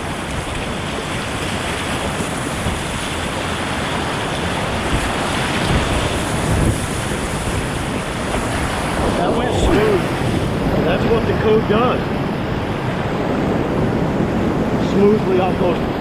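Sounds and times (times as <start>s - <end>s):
whitewater rushing: 0.0s - 16.0s
wind buffeting microphone: 0.0s - 16.0s.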